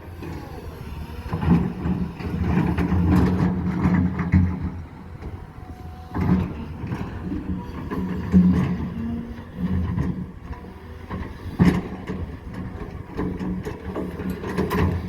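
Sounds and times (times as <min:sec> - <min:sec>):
excavator diesel engine under load: 0:00.0 - 0:15.0.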